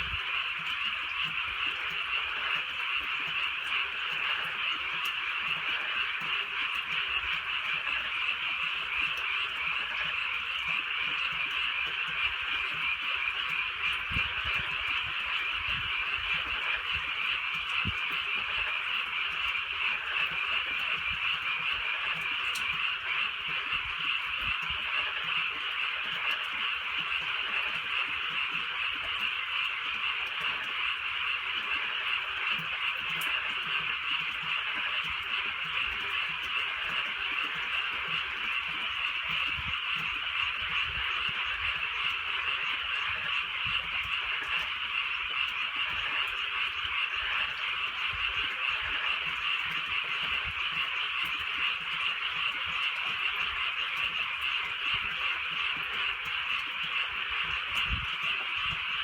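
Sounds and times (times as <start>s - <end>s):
chorus of frogs trilling: 0.0s - 59.0s.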